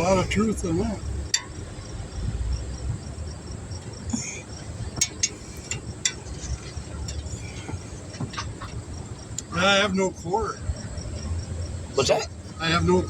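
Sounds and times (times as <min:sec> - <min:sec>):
insects chirping trill: 0:00.0 - 0:13.0.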